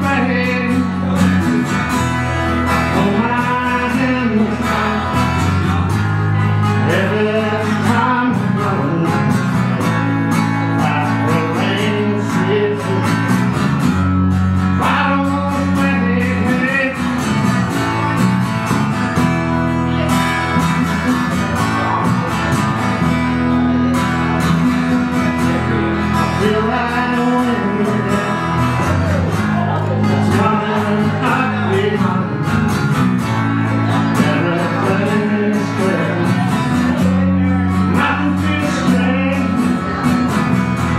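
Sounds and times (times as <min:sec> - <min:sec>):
strummed acoustic guitar: 0:00.0 - 0:40.9.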